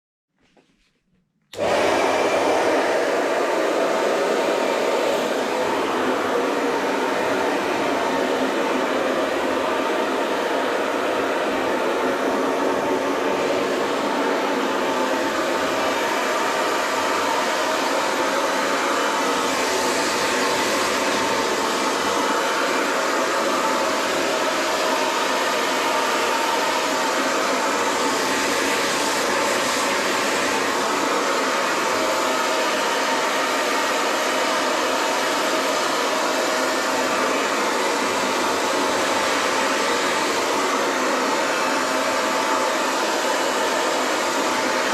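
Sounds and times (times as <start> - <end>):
hair dryer blowing: 1.2 - 44.9.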